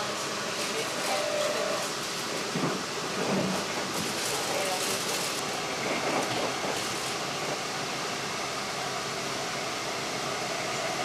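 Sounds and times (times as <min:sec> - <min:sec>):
train rolling noise from inside: 0:00.0 - 0:11.0.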